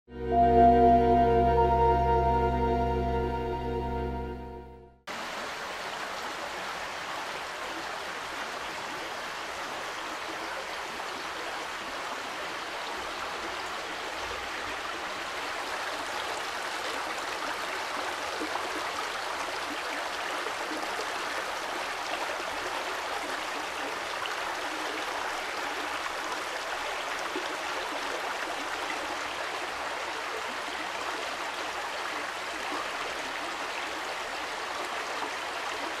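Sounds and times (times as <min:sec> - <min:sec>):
stream running over stones: 0:05.1 - 0:36.0.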